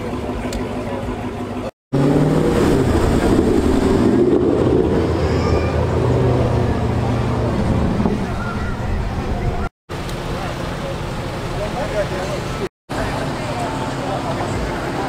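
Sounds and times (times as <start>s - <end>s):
car engines low rumble: 0.0s - 15.0s.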